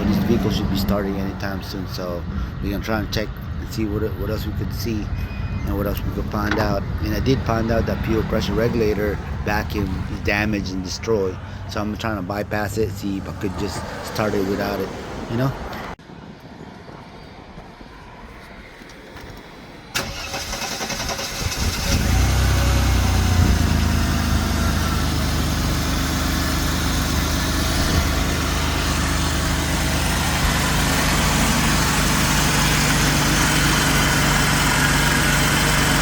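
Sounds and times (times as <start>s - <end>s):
car engine cranking and idling: 0.0s - 14.9s, 19.2s - 36.0s.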